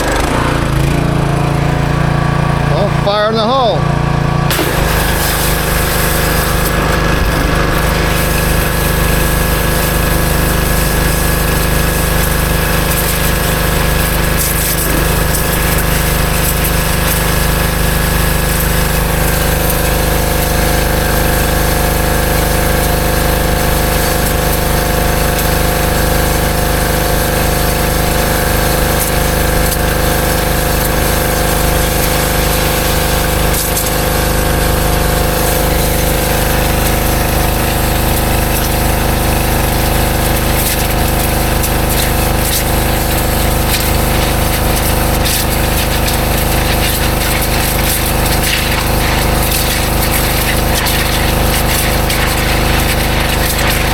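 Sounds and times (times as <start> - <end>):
pressure washer engine drone: 0.0 - 53.9
water spray hissing: 4.5 - 53.9.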